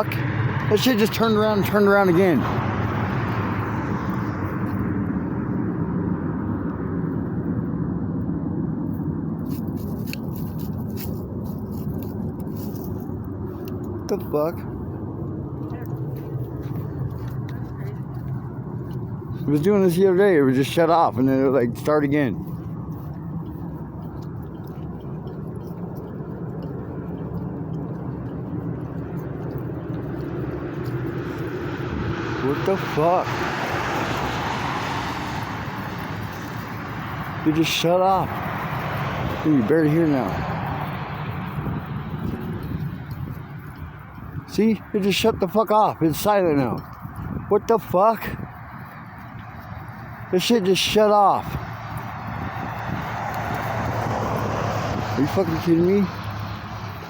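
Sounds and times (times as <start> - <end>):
aircraft roar high in the sky: 0.0 - 57.0
jet rushing overhead: 0.0 - 57.0.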